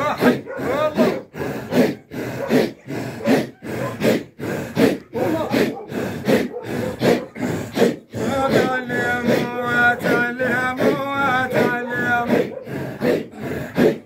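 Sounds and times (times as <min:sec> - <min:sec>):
men chanting rhythmic breaths: 0:00.0 - 0:14.0.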